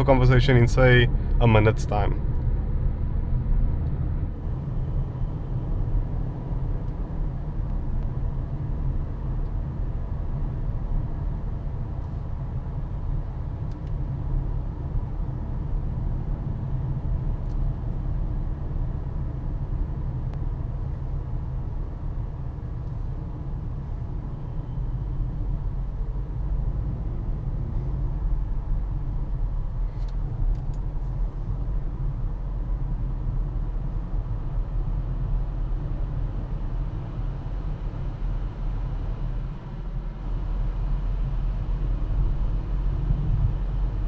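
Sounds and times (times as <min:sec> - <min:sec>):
car cabin wind and road rumble: 0:00.0 - 0:44.0.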